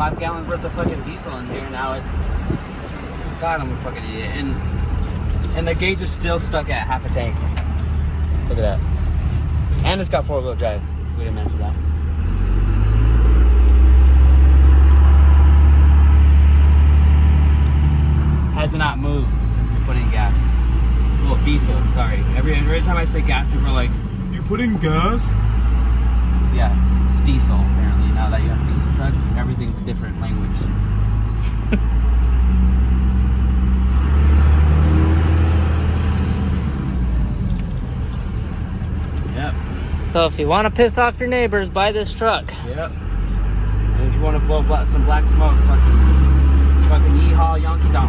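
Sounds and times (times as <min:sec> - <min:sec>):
diesel truck engine drone: 0:00.0 - 0:48.0.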